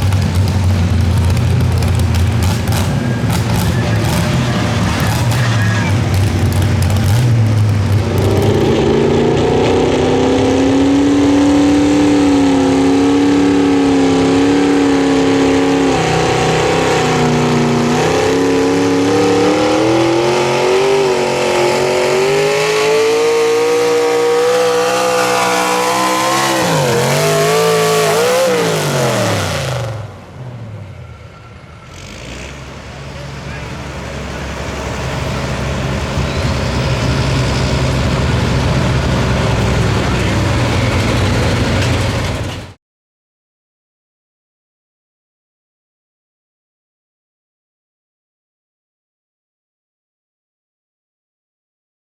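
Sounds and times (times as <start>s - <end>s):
truck engine at full throttle: 0.0s - 42.8s.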